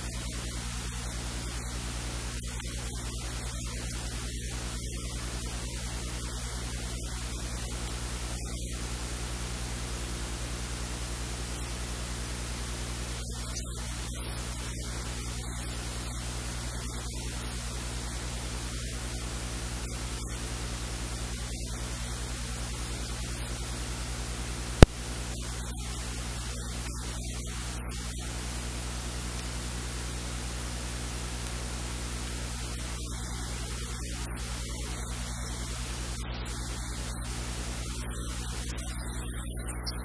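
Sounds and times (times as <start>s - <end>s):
electrical hiss and static: 0.0s - 40.0s
low mains hum: 0.0s - 40.0s.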